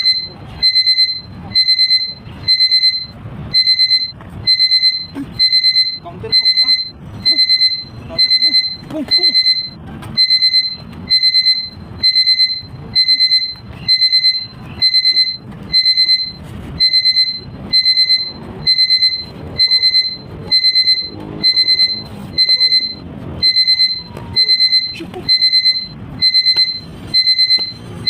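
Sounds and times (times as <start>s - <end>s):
electronic alarm beeping: 0.0s - 28.0s.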